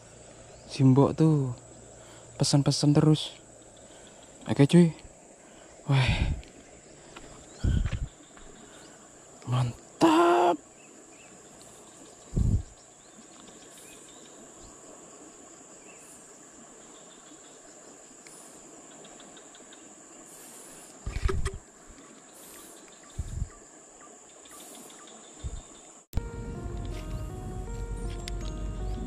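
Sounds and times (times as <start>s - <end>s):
soft outdoor hiss: 0.0s - 29.0s.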